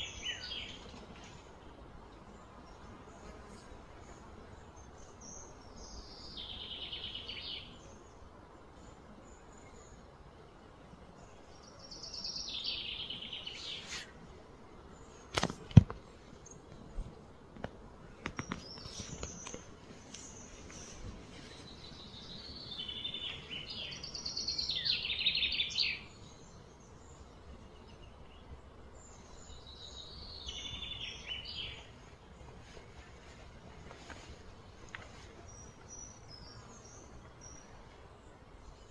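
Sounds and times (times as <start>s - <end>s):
outdoor background hum: 0.0s - 38.9s.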